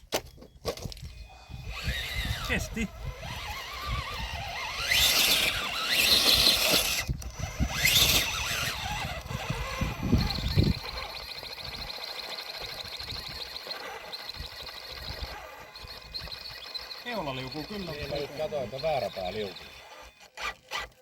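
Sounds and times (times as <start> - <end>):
electric motor and drivetrain whining: 0.8 - 21.0.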